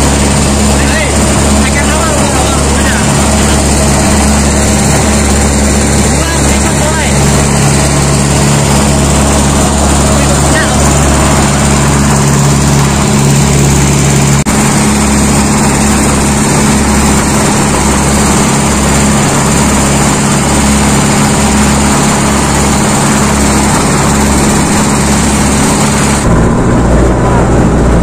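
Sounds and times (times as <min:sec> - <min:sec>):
speedboat engine running: 0:00.0 - 0:28.0
water rushing along hull: 0:00.0 - 0:28.0.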